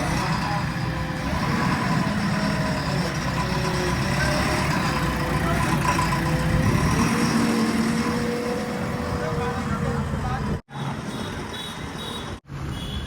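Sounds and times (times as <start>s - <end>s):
diesel engine rumbling: 0.0s - 10.7s.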